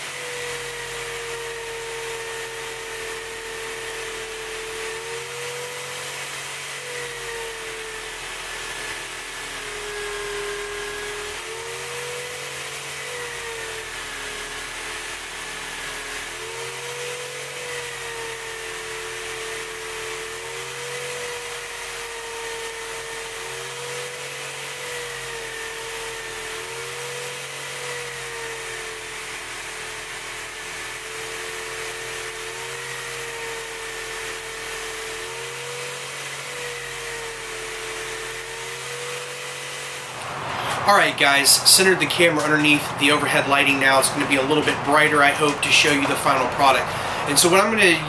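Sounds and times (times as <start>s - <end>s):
electric buffer motor hum: 0.0s - 48.0s.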